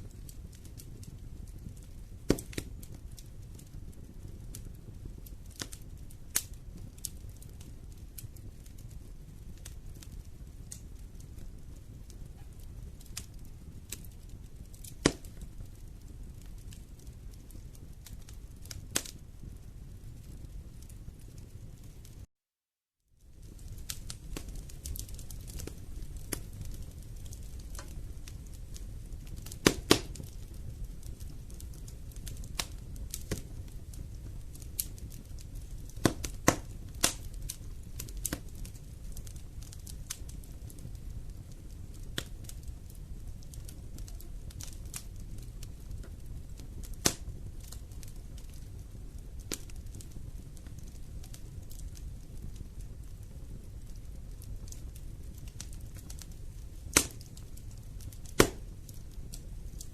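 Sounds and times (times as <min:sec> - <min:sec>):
low rumble of flames: 0:00.0 - 0:22.3, 0:23.1 - 0:59.9
wood fire crackling and popping: 0:00.0 - 0:22.3, 0:23.2 - 0:59.9.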